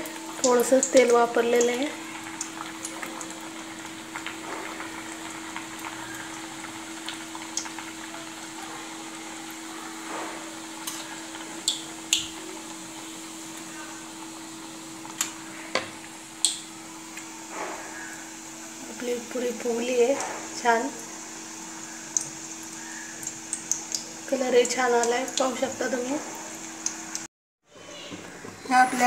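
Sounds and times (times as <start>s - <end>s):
dough sizzling in hot oil: 0.0s - 27.3s.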